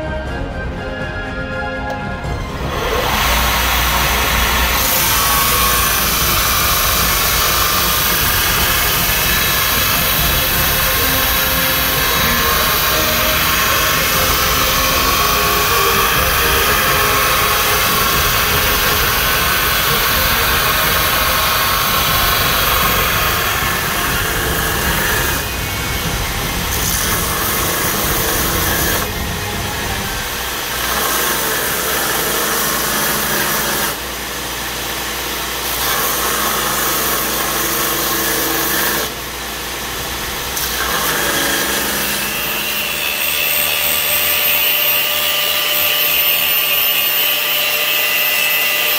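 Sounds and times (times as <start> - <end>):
motor humming: 0.0 - 48.9
belt grinder grinding steel: 1.9 - 48.9.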